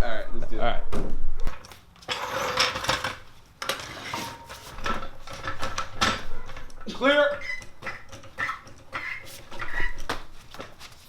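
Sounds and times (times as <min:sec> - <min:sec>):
metal clattering and scraping: 0:02.0 - 0:11.0.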